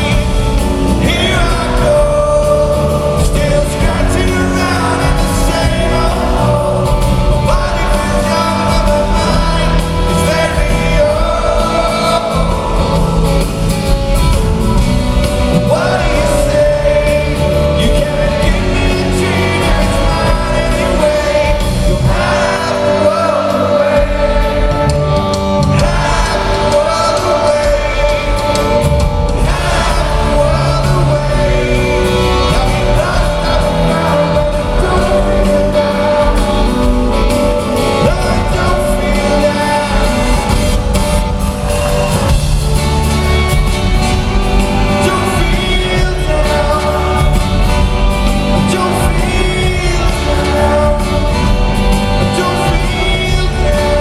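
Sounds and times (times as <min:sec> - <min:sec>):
live rock band with vocals: 0:00.0 - 0:54.0.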